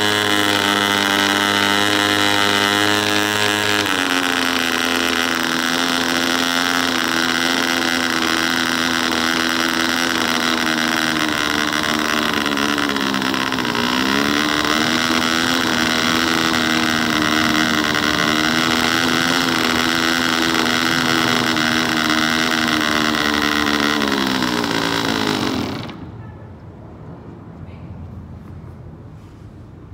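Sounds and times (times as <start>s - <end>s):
model aircraft engine running: 0.0s - 26.2s.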